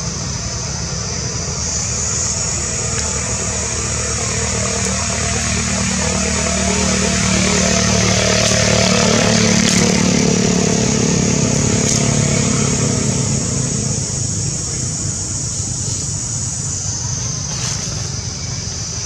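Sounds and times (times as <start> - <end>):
passing vehicle engine: 0.0 - 19.0.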